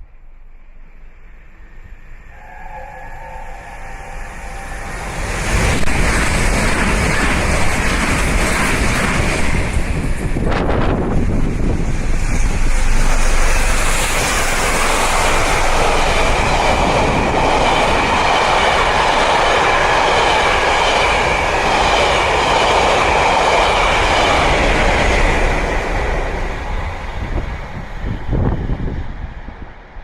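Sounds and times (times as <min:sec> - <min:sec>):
train wheels rolling on rail: 0:01.6 - 0:30.0.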